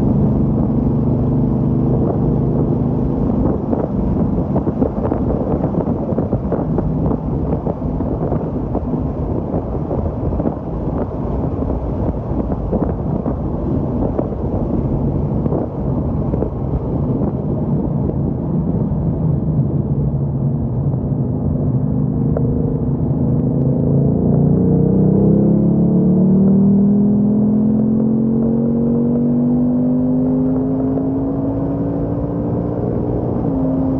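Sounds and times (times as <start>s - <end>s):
car engine accelerating: 0.0s - 33.9s
road and engine rumble in car: 0.0s - 33.9s.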